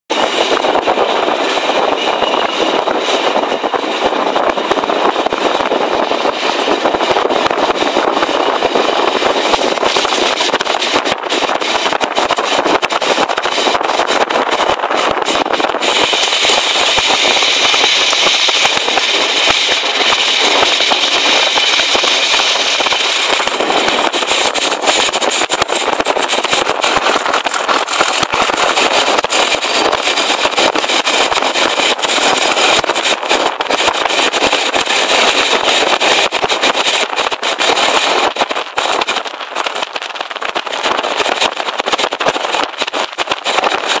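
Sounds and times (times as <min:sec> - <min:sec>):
rushing air: 0:00.1 - 0:44.0
train engine noise: 0:00.1 - 0:44.0
wheels on rails: 0:00.1 - 0:44.0.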